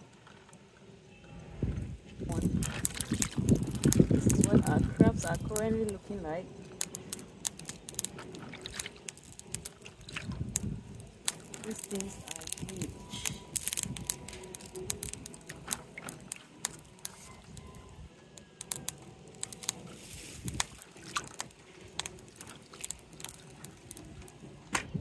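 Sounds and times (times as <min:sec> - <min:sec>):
water splashing: 0:02.3 - 0:17.5, 0:18.6 - 0:24.5
crab shells clicking together: 0:02.3 - 0:24.6.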